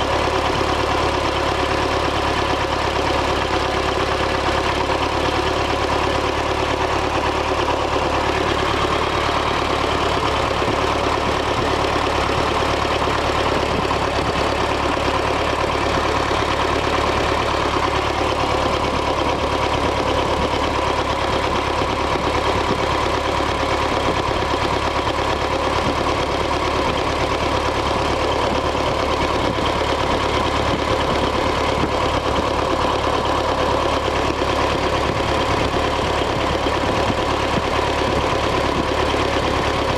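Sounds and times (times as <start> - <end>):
rough diesel engine idling: 0.0 - 39.9.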